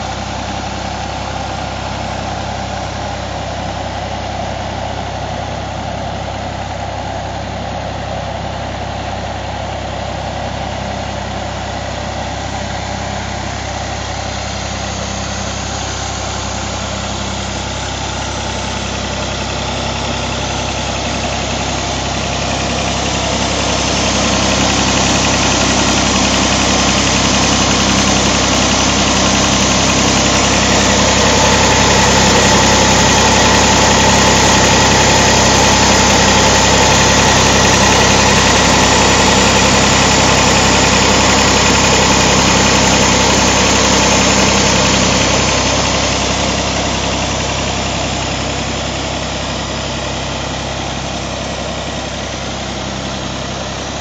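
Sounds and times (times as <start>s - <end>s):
diesel compressor engine idling: 0.0s - 54.0s.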